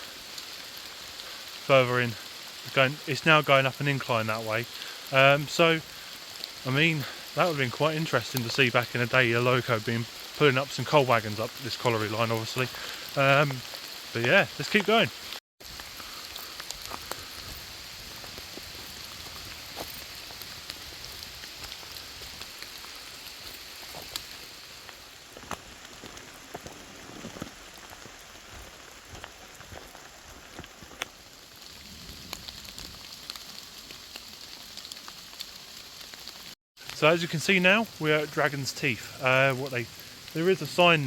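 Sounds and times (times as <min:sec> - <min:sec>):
heavy rain: 0:00.0 - 0:41.0.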